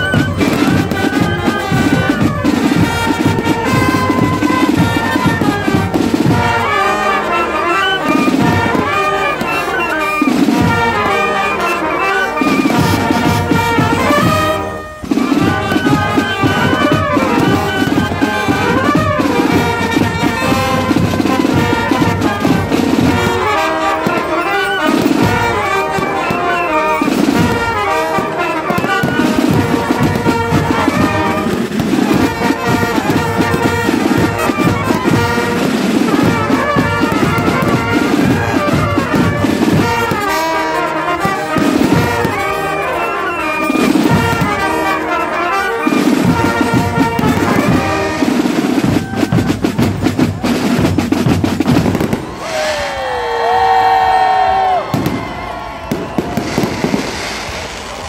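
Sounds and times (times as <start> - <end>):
brass band playing dance tune: 0.0 - 58.0
fireworks bursting and crackling: 0.0 - 58.0.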